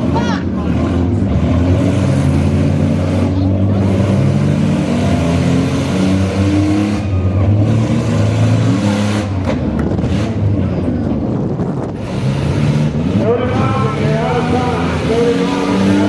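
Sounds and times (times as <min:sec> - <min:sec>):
engines revving: 0:00.0 - 0:16.0.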